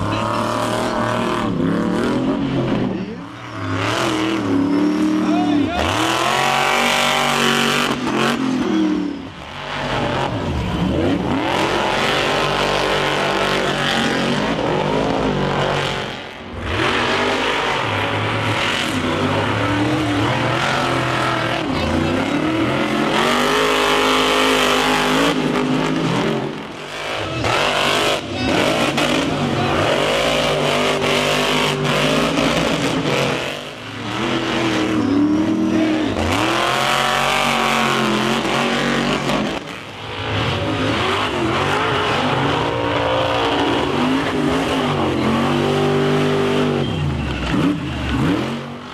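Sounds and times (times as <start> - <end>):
monster truck engine revving: 0.0 - 48.9.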